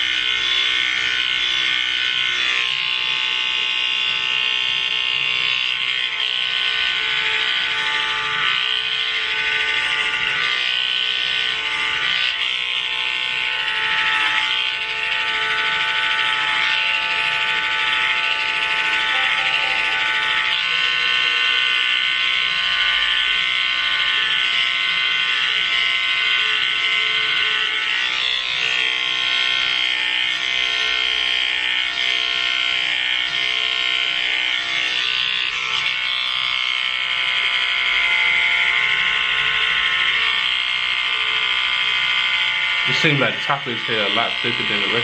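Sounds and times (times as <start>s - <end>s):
electric hair clippers buzzing: 0.0s - 45.0s.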